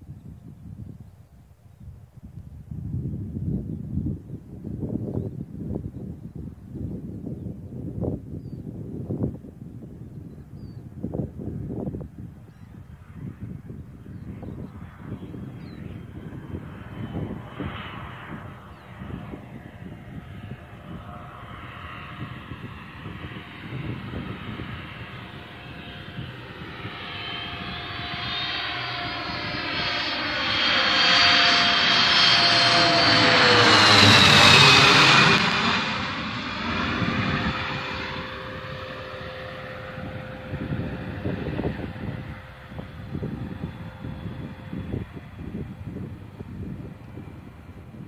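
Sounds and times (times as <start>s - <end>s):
jet engine whine passing overhead: 2.9s - 48.0s.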